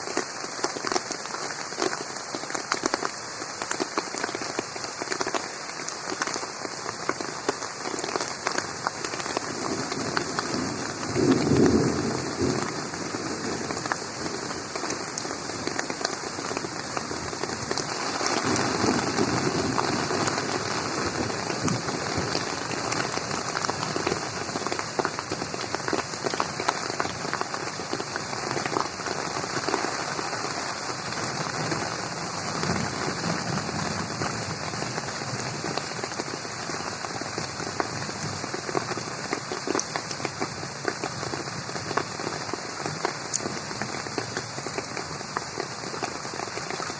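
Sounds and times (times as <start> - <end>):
rain hissing on pond: 0.0 - 46.9.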